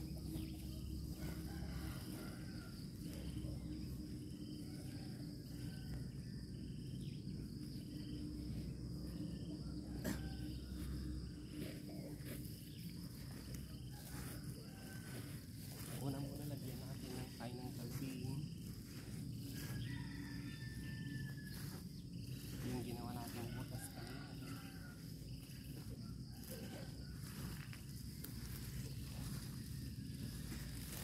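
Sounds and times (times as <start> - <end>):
crickets trilling: 0.0 - 31.0.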